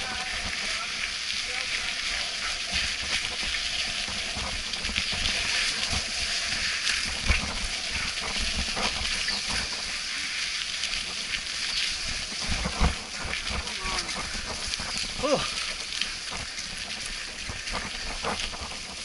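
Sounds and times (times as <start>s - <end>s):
bike tyres rushing on trail: 0.0s - 19.0s.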